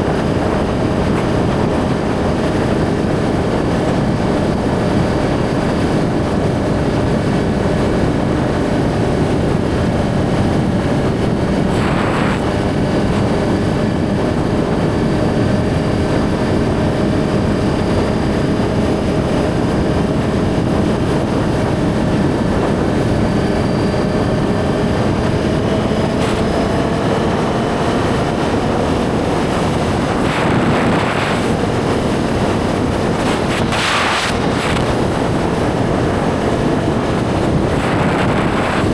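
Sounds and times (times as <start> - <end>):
motorcycle engine cruising: 0.0 - 38.9
wind rushing past microphone: 0.0 - 38.9.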